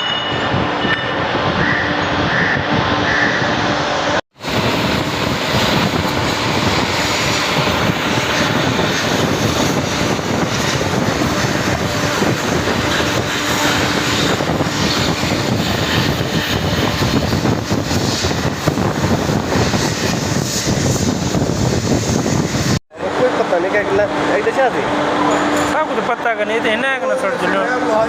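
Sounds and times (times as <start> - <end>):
loud machine noise: 0.0 - 28.0.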